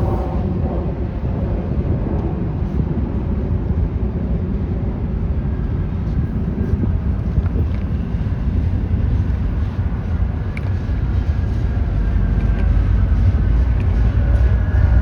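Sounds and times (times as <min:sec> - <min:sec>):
large vehicle rumbling: 0:00.0 - 0:15.0.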